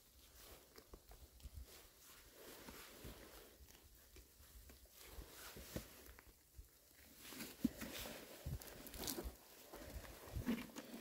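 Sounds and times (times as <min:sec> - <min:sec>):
faint small ticks and rustles: 0:00.0 - 0:11.0.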